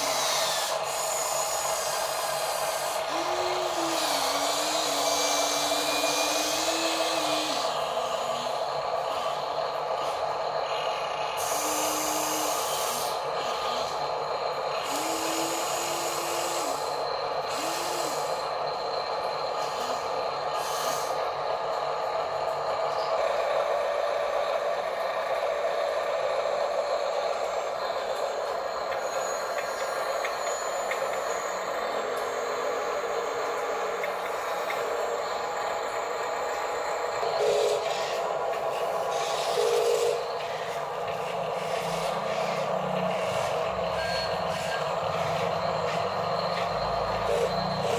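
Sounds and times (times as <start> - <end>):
small electric motors whining: 0.0 - 47.9.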